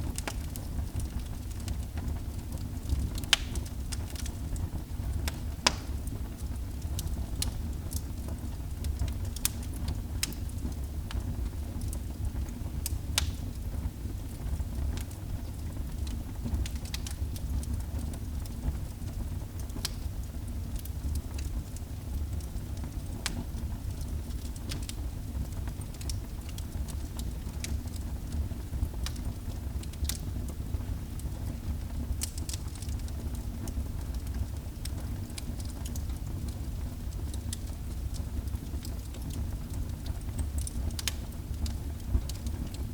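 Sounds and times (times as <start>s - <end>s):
fire crackling and popping: 0.0s - 42.9s
wood fire rumbling: 0.0s - 42.9s.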